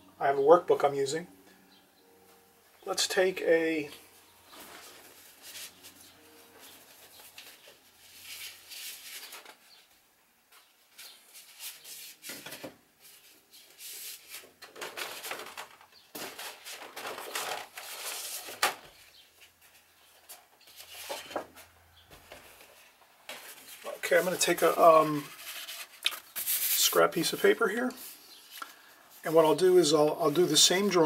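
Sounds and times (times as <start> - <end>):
paper rustling and shuffling: 4.5 - 31.0.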